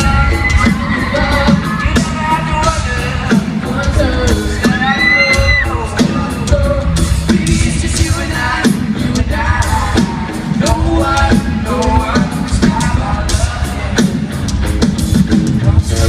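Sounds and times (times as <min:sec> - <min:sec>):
pop-rock band playing: 0:00.0 - 0:16.0.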